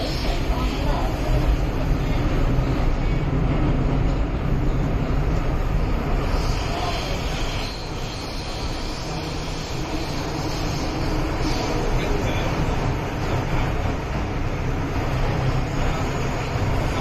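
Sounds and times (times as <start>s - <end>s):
train rumbling inside cabin: 0.0s - 17.0s.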